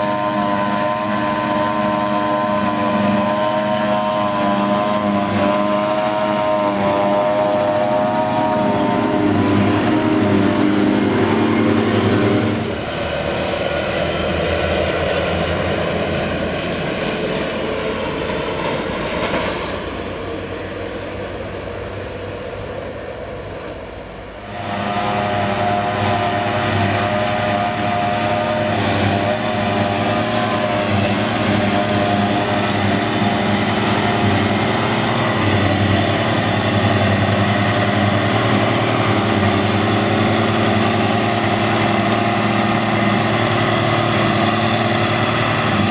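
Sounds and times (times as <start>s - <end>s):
forage harvester chopping grass: 0.0s - 20.0s, 24.4s - 45.9s
high machine whine: 0.0s - 21.1s, 23.7s - 45.9s
tractor engine pulling trailer: 0.0s - 45.9s.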